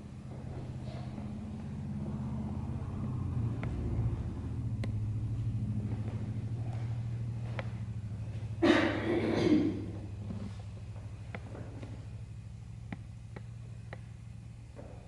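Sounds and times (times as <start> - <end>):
low fluttering rumbling hum: 0.0 - 15.0.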